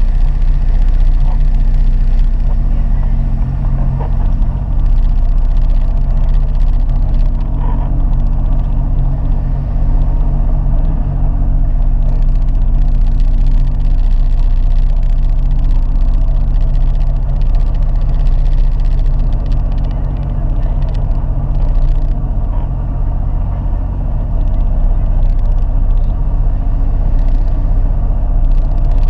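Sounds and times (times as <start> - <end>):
jet ski engine idling: 0.0 - 29.0.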